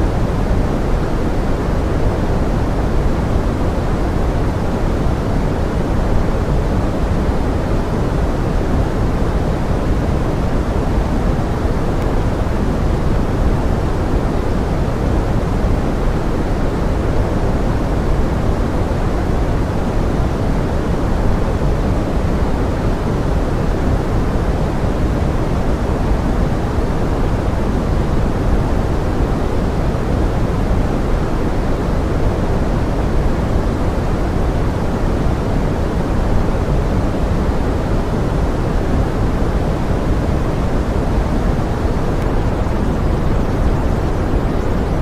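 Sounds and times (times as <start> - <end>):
steady noise rush with rain: 0.0 - 45.0.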